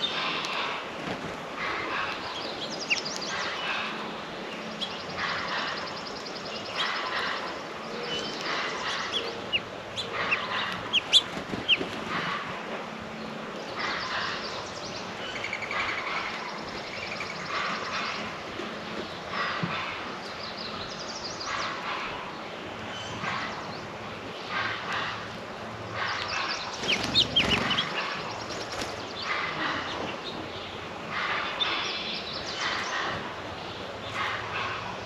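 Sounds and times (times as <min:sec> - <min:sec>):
outdoor ambience: 0:00.0 - 0:35.0
songbirds chirping: 0:00.0 - 0:35.0.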